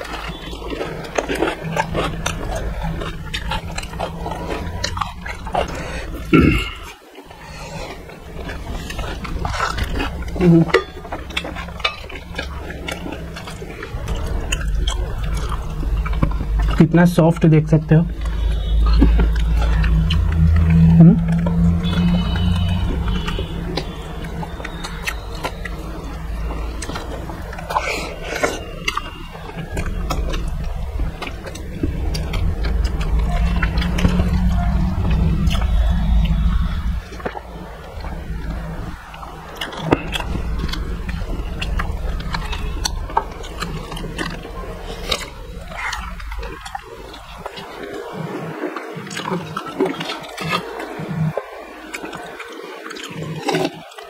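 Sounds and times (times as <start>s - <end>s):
steady low rumble: 0.0s - 52.4s
wet chewing: 0.0s - 54.0s.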